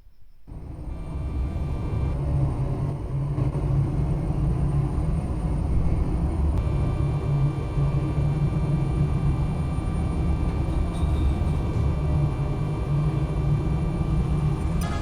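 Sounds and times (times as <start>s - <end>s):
truck engine rumble: 0.5s - 15.0s.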